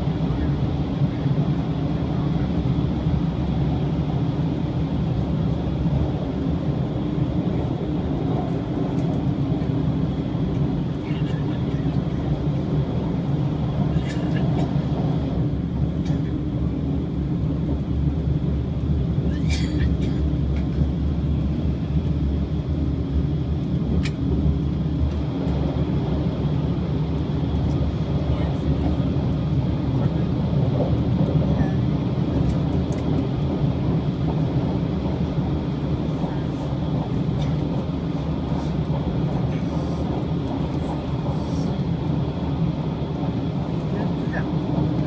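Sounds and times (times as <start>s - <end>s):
train running rumble: 0.0s - 45.0s.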